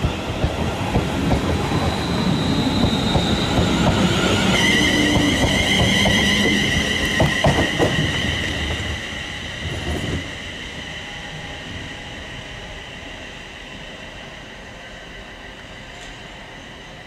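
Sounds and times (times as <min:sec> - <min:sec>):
rail noise: 0:00.0 - 0:17.0
train high-pitched squeal: 0:00.0 - 0:17.0.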